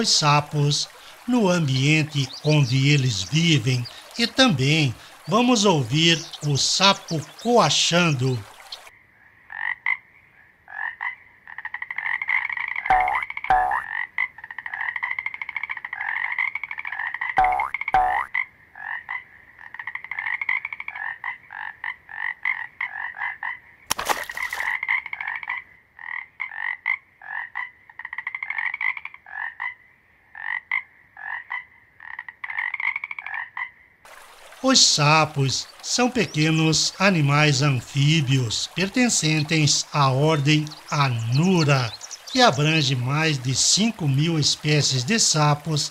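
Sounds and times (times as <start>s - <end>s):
frogs croaking: 0.0s - 45.9s.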